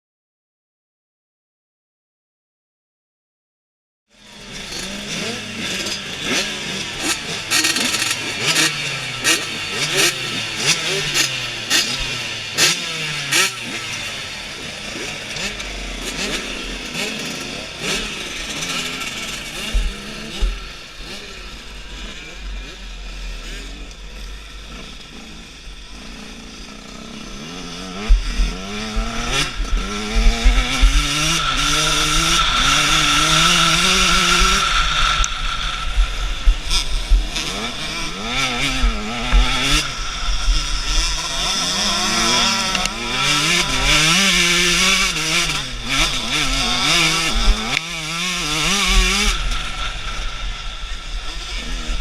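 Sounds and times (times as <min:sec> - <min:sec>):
motocross bike engine revving: 0:04.1 - 0:52.0.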